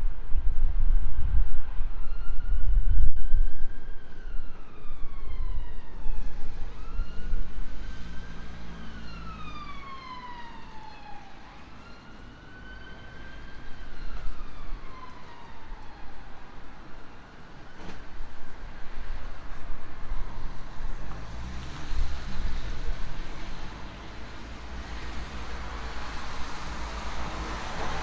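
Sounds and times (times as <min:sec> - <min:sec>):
emergency siren wailing: 0:01.2 - 0:28.0.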